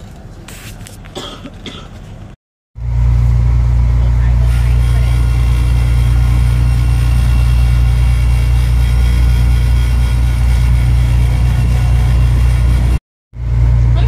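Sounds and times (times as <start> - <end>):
ferry engine droning: 1.5 - 14.0.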